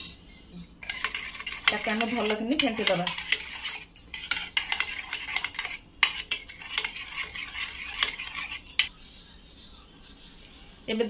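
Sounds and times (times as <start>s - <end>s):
spoon clinking and scraping bowl: 0.0s - 9.2s.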